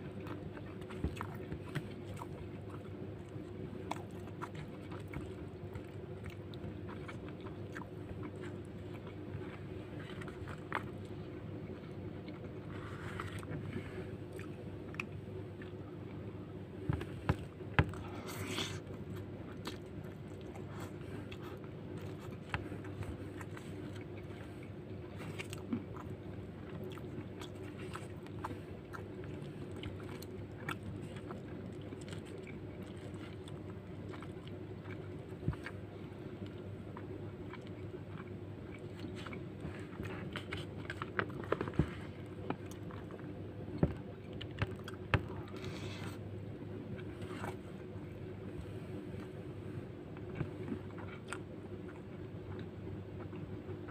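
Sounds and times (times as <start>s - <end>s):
biting and chewing: 0.0s - 46.3s, 50.2s - 53.9s
steady low hum: 0.0s - 53.9s.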